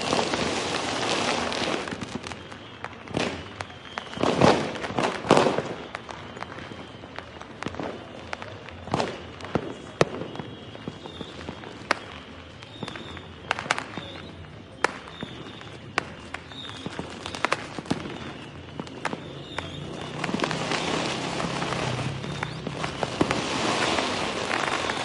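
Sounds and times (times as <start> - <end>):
distant fireworks explosions: 0.0 - 25.0
fireworks bangs and pops: 0.0 - 25.0.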